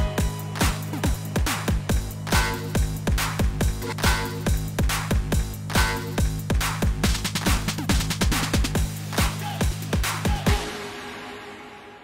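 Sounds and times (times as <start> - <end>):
deep kick drum beat: 0.0 - 10.7.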